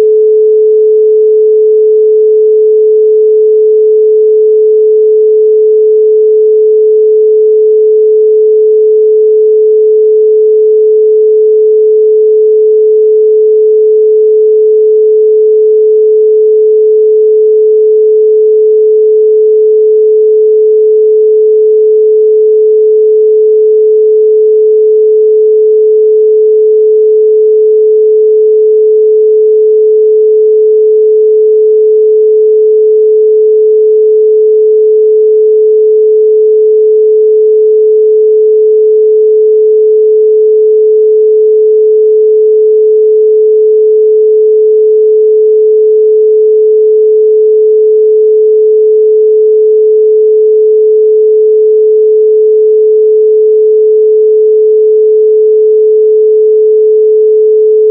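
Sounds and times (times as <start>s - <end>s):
steady pure sine tone: 0.0s - 57.9s.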